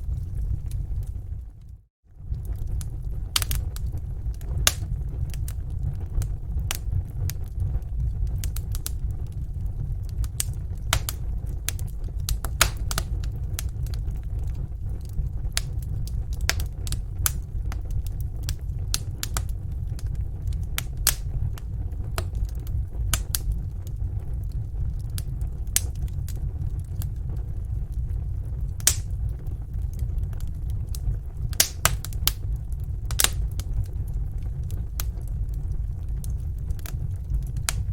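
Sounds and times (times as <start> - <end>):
low rumble of flames: 0.0 - 37.9
wood fire crackling and popping: 0.0 - 37.9.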